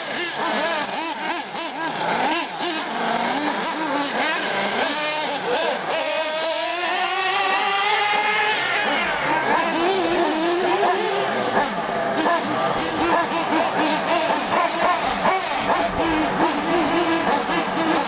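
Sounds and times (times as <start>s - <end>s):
nitro engines revving: 0.0s - 18.0s.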